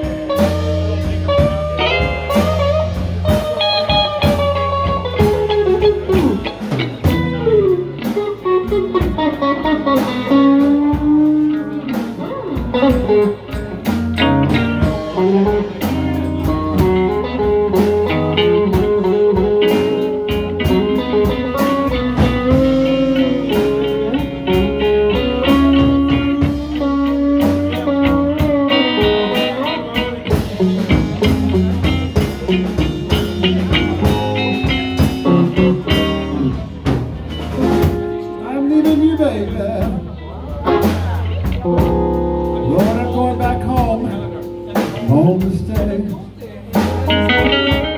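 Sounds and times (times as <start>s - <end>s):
bass and drums: 0.0s - 47.9s
electric blues guitar solo: 0.0s - 47.9s.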